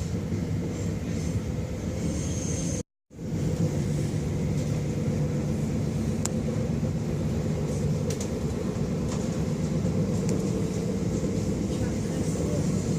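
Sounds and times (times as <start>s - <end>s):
train rumbling inside carriage: 0.0s - 12.9s.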